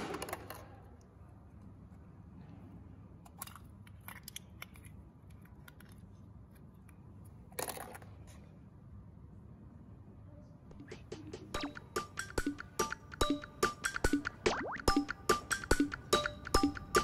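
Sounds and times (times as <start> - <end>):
faint low hum: 0.0 - 15.3.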